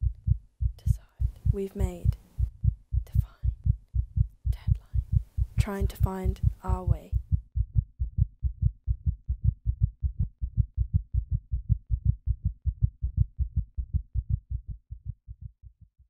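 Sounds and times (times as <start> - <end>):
low thudding pulse: 0.0 - 16.0.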